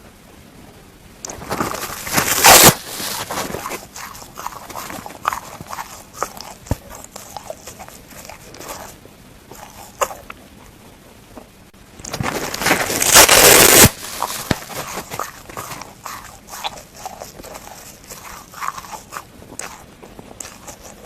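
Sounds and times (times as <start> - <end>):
sponge being bitten and chewed: 1.2 - 10.4, 12.0 - 21.0.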